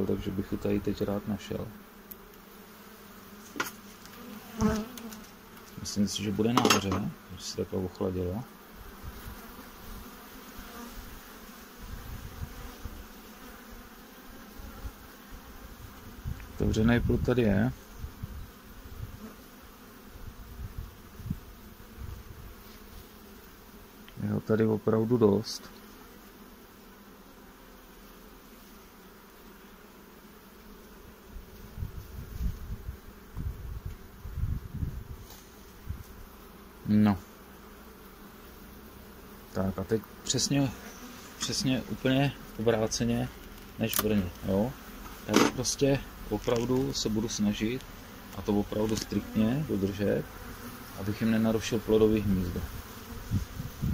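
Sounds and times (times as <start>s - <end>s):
bees humming: 0.0s - 53.9s.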